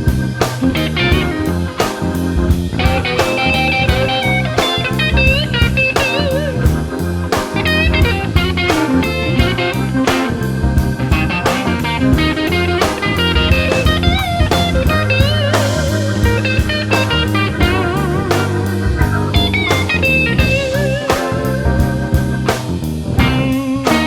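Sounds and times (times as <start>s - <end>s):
bass line: 0.0s - 24.0s
lead guitar with vibrato: 0.0s - 24.0s
steady drum beat: 0.0s - 24.0s.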